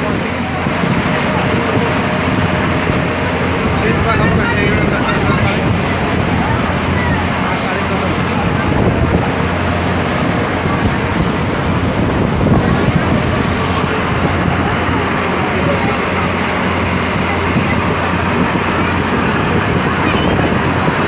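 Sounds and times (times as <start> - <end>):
boat engine drone: 0.0 - 21.0
heavy rain pouring: 0.0 - 21.0
wind on microphone: 0.0 - 21.0.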